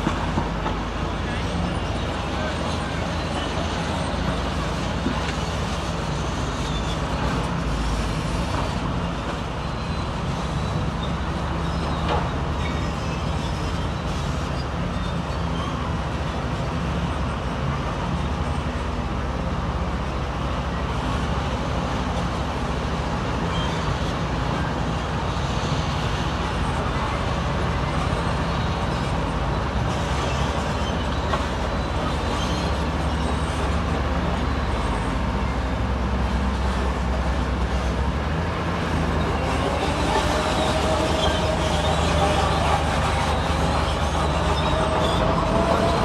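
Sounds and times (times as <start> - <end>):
heavy machinery diesel engine: 0.0 - 46.0.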